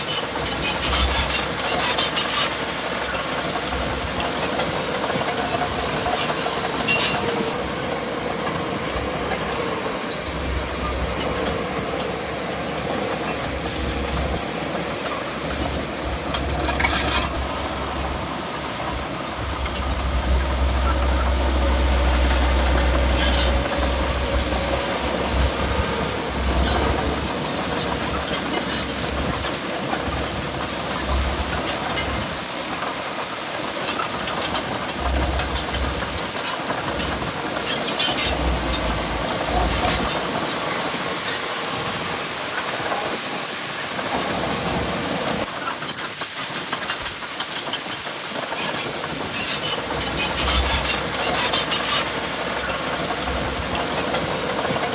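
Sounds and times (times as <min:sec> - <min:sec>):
heavy diesel machinery rumbling: 0:00.0 - 0:54.9
steel tracks clanking: 0:00.0 - 0:54.9.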